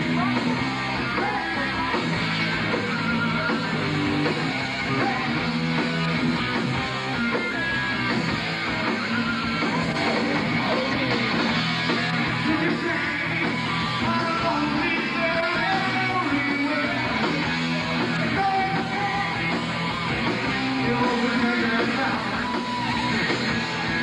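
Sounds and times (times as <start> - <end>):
bass guitar: 0.0 - 24.0
drums: 0.0 - 24.0
electric guitar: 0.0 - 24.0.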